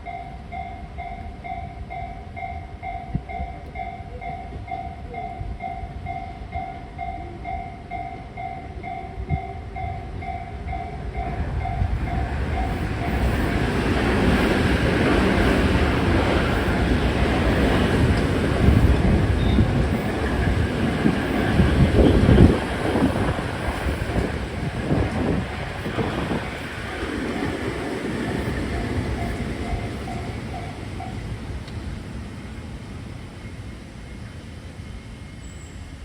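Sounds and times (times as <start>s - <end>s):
electric train passing: 0.0s - 36.0s.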